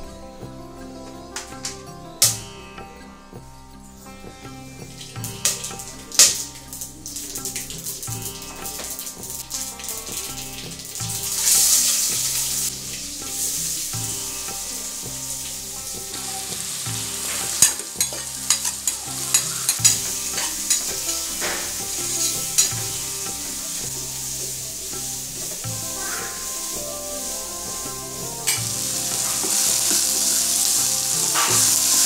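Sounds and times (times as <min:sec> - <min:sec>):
food sizzling in hot oil: 0:05.2 - 0:32.0.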